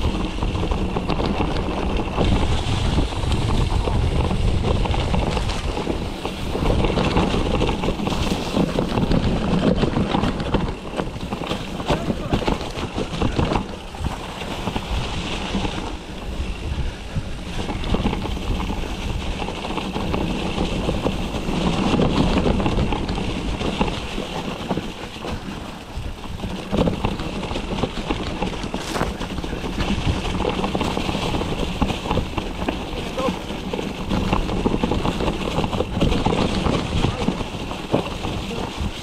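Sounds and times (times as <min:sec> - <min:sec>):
bike knocking and rattling: 0:00.0 - 0:39.0
tyres rumbling on dirt trail: 0:00.0 - 0:39.0
wind buffeting microphone: 0:00.0 - 0:39.0.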